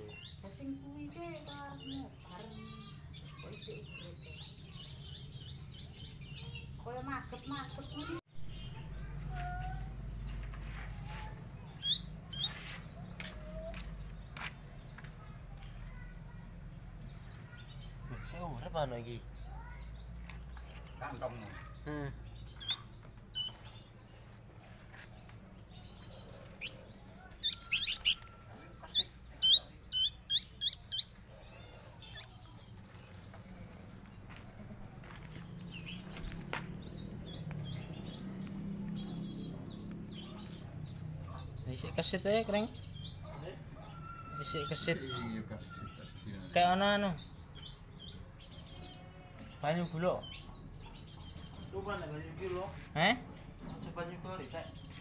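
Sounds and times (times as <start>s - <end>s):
pet bird chirping: 0.0s - 52.6s.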